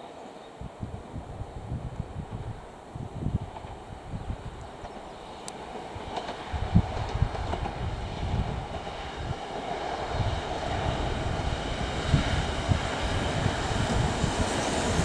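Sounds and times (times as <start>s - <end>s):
wind gusting on microphone: 0.6s - 15.0s
electric train approaching: 1.5s - 15.0s.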